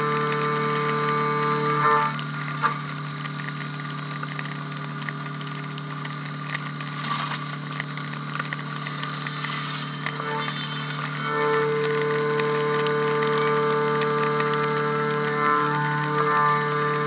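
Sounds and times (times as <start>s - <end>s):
milling machine hum: 0.0s - 17.0s
steady high whine: 0.0s - 17.0s
small scattered ticks: 2.0s - 17.0s.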